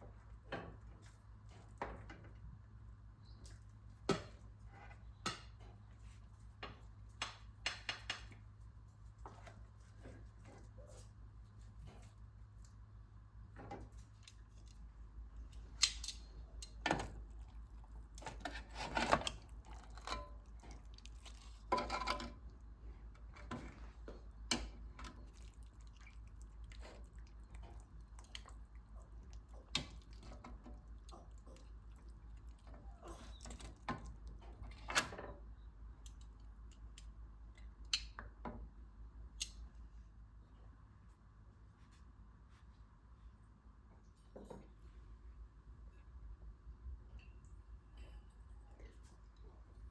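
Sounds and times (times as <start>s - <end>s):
low steady hum: 0.0s - 49.9s.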